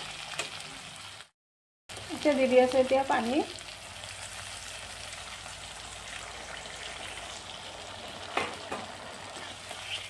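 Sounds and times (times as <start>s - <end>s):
oil sizzling in a wok: 0.0s - 1.3s, 1.9s - 10.0s.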